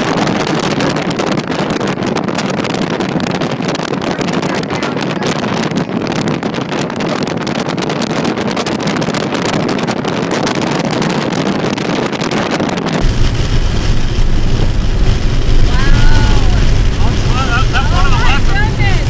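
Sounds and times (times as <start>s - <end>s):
road and engine rumble: 0.0s - 19.0s
wind buffeting microphone: 0.0s - 19.0s.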